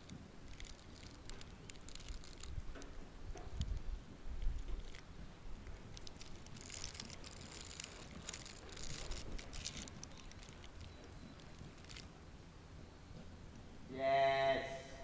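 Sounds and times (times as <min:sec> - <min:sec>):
horse hooves trotting on sand: 0:00.0 - 0:13.7.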